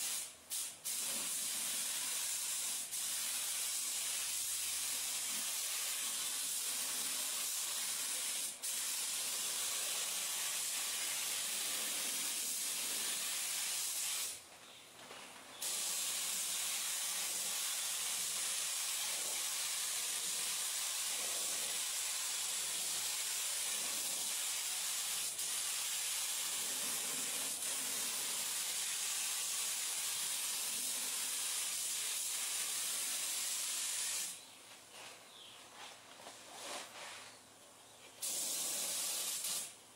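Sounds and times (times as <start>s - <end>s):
paint spray gun hissing: 0.0s - 14.4s, 15.6s - 34.5s, 38.2s - 39.8s.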